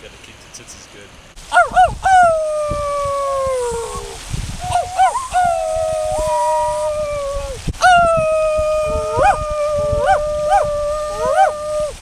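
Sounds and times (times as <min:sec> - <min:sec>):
long howls: 0:01.5 - 0:12.0
rising and falling yips: 0:01.5 - 0:12.0.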